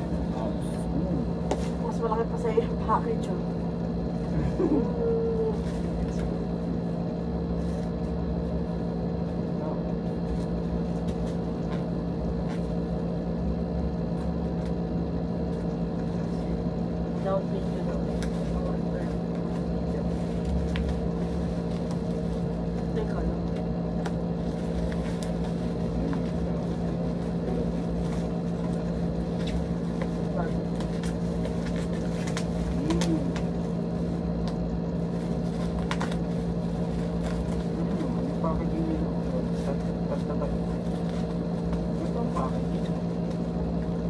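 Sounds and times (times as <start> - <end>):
steady electric hum: 0.0 - 44.0.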